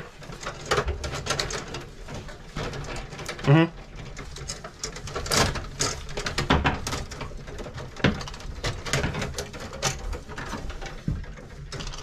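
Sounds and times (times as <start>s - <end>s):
wires clicking and scraping: 0.0s - 12.0s.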